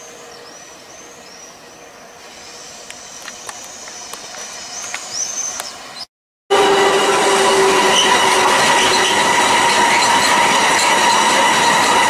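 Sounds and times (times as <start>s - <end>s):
locomotive wheels squealing: 2.2s - 12.0s.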